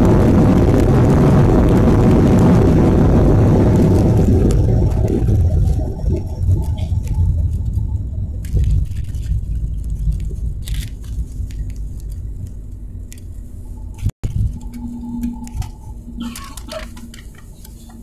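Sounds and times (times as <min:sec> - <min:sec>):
jet cabin low rumble: 0:00.0 - 0:18.0
steady hum: 0:00.0 - 0:18.0.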